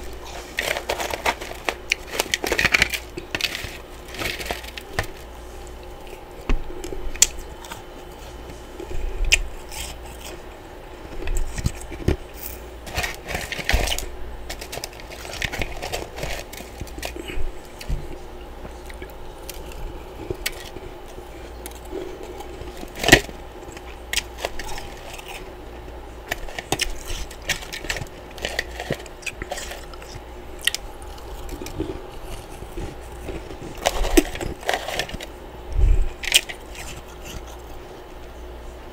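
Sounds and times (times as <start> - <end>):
ice crunching while chewed: 0.0 - 35.4, 36.1 - 37.9.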